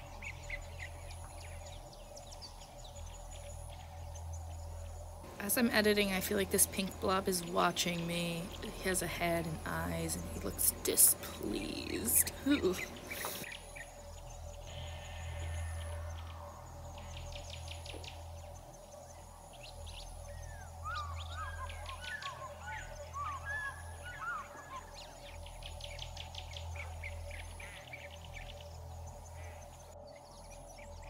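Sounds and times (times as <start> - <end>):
birds chirping and trilling: 0.0 - 31.0
steady low hum: 0.0 - 31.0.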